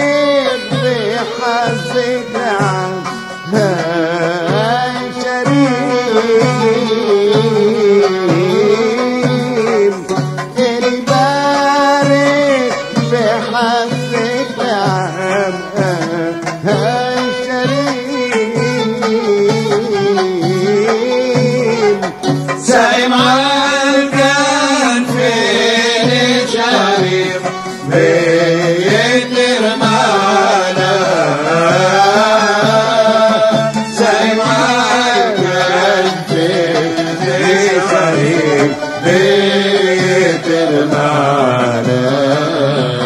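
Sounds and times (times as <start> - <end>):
instrumental accompaniment with low beat: 0.0 - 43.0.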